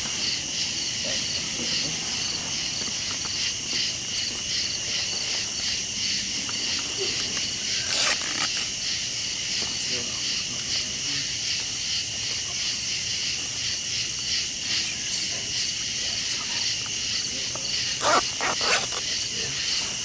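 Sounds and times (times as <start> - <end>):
night insects chirping: 0.0 - 20.0.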